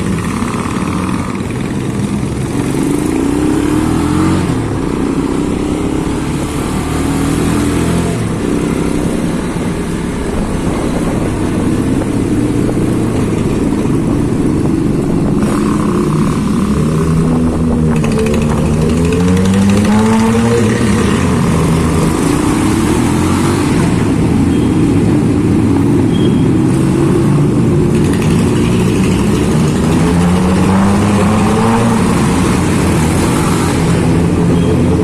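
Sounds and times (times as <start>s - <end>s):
motorcycles revving in a tunnel: 0.0s - 35.0s.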